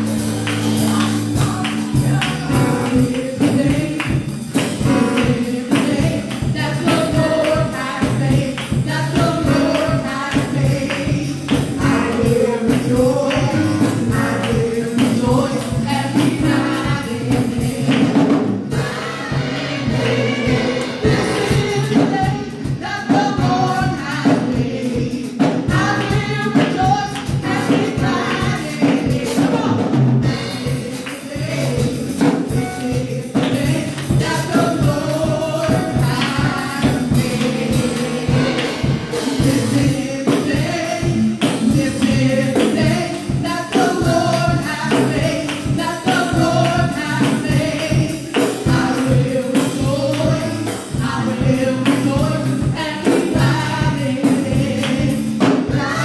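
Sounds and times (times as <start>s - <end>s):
tambourine beat: 0.0s - 29.6s, 30.3s - 56.0s
choir singing with band: 0.0s - 56.0s.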